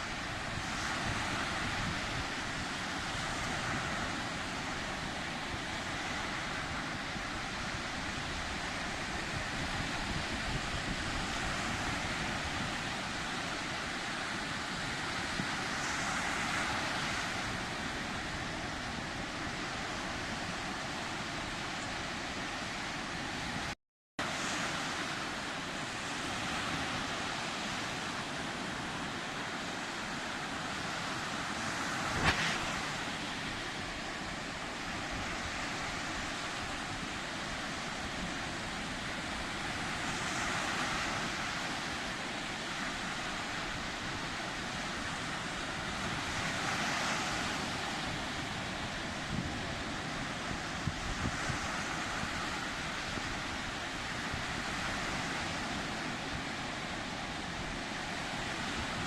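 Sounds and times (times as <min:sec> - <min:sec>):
sea waves surf rushing: 0:00.0 - 0:59.0.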